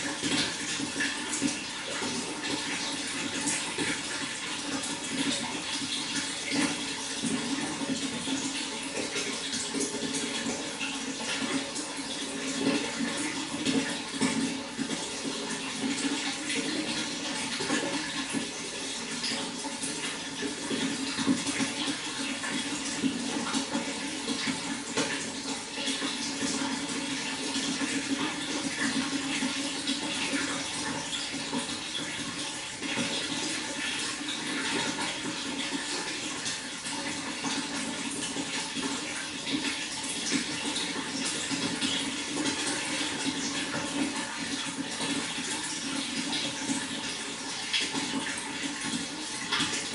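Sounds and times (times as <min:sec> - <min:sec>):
water flowing and splashing: 0:00.0 - 0:49.9.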